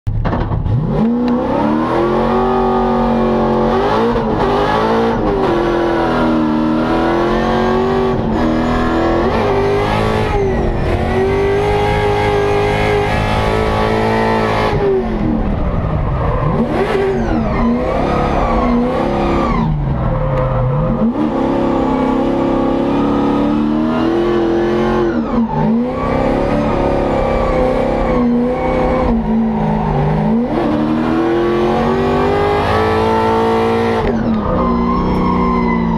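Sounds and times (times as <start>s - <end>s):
car engine at high revs: 0.1s - 35.9s.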